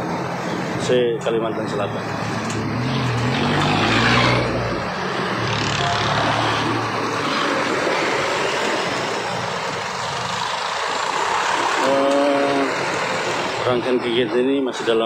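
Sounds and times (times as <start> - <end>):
constant rushing noise: 0.0 - 15.0
off-road vehicles driving past: 0.1 - 15.0.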